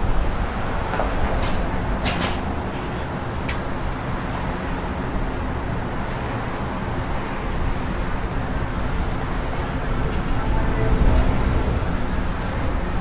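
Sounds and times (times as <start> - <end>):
passing cars: 0.0 - 13.0.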